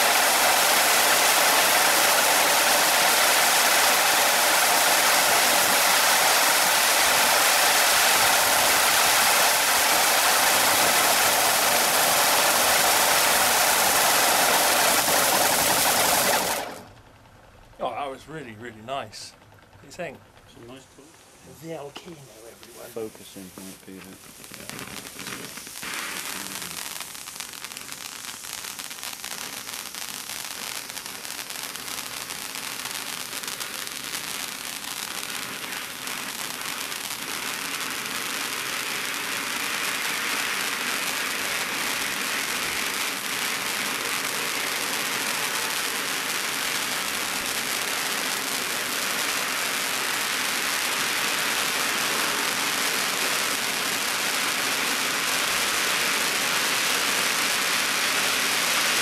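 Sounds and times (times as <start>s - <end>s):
firework fountain hissing: 0.0s - 59.0s.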